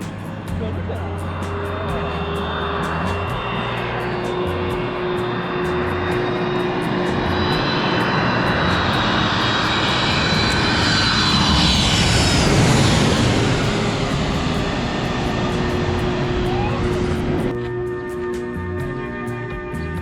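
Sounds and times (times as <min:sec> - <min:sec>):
high jet engine whine: 0:00.0 - 0:20.0
jet airliner passing overhead: 0:00.0 - 0:20.0.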